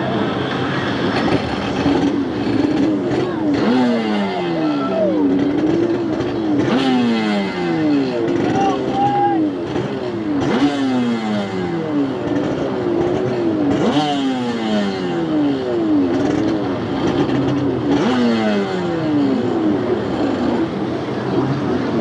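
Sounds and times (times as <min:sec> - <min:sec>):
jet ski engines revving: 0:00.0 - 0:22.0.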